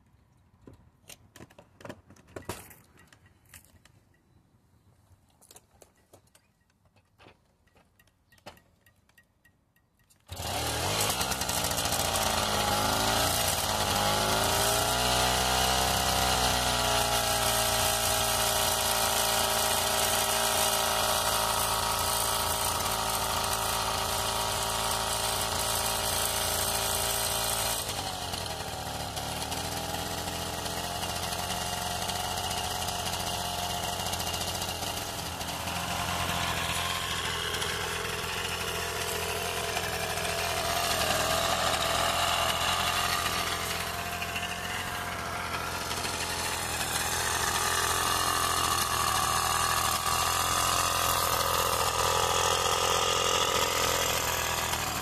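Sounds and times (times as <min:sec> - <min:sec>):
moped two-stroke engine revving: 0:10.2 - 0:55.0.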